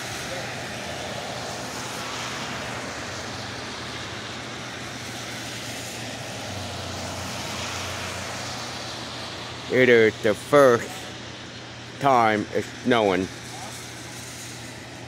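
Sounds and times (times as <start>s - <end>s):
car engines passing: 0.0s - 15.0s
tyres hissing on wet pavement: 0.0s - 15.0s.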